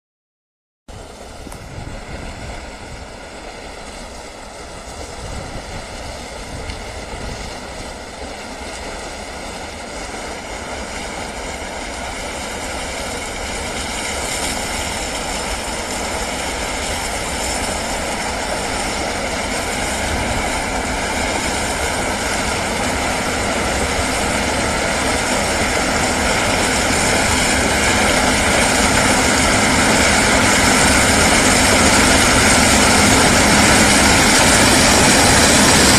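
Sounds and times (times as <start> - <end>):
combine harvester drone: 0.9 - 35.9.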